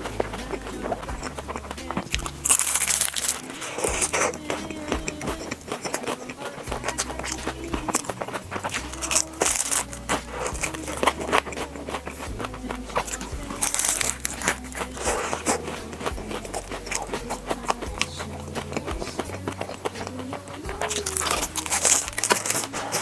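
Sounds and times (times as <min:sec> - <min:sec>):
crisp crunching while eating: 0:00.0 - 0:23.0
soft music with bass line: 0:00.0 - 0:23.0.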